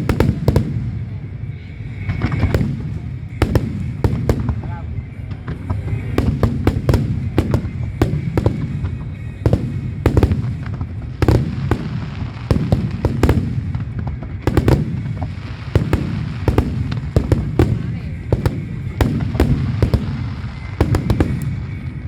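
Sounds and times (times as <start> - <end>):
fireworks bangs: 0.0 - 22.0
low fireworks rumble: 0.0 - 22.0.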